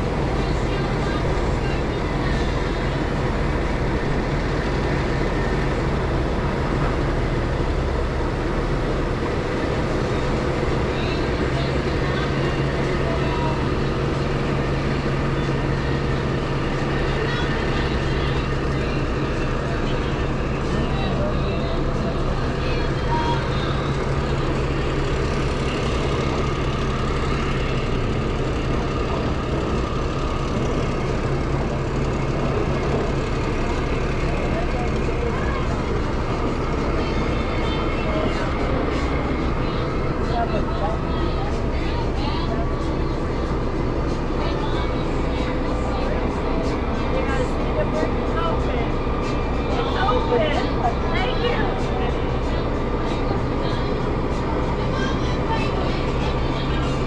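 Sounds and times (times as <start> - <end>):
boat engine droning: 0.0 - 57.0
steady rushing noise: 0.0 - 57.0.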